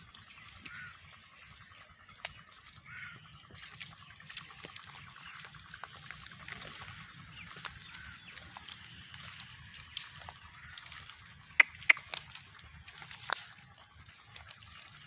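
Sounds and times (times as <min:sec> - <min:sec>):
goats feeding clicks and crunches: 0:00.0 - 0:15.0
vegetation rustling: 0:02.6 - 0:15.0.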